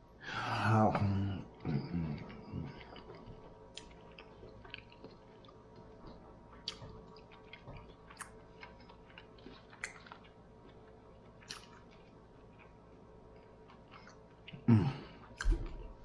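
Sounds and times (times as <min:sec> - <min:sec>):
chewing with mouth clicks: 0:01.6 - 0:15.8.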